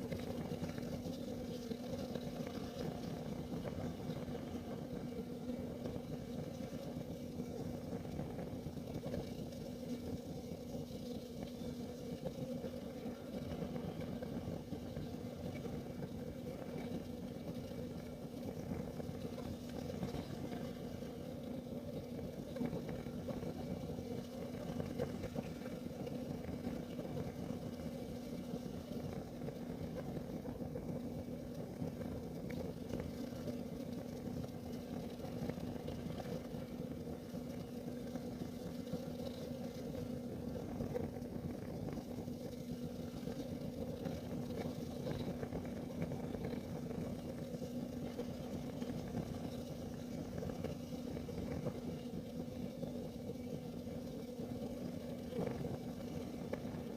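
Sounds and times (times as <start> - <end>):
constant hum: 0.0 - 56.9
heater burning with low rumble: 0.0 - 56.9.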